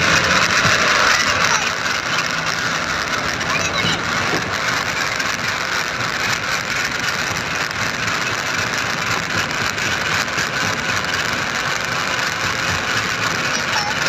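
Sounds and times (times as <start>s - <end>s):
machine engine running: 0.0s - 14.0s.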